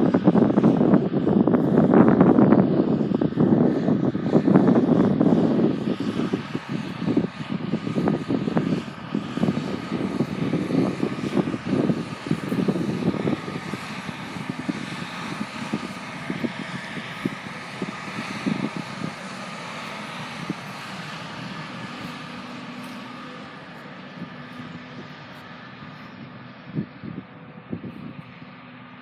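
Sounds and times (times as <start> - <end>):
farm machine engine chugging: 0.1 - 29.0.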